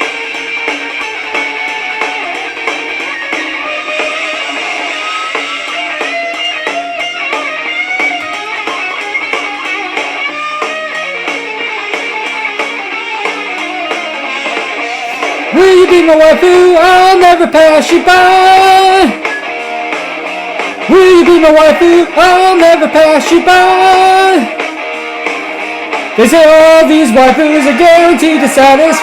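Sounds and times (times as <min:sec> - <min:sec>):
blues-rock band playing: 0:00.0 - 0:29.0
slide guitar lines: 0:00.0 - 0:29.0.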